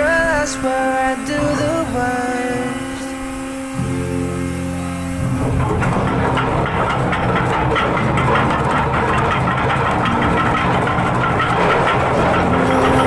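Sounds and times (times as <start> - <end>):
mooring winch machinery drone: 0.0 - 13.0.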